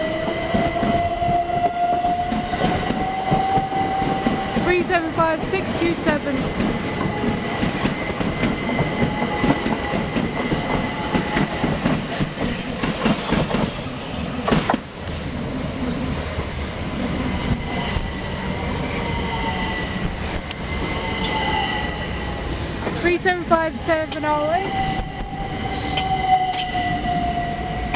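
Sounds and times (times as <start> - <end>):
electric train rumbling: 0.0 - 27.9.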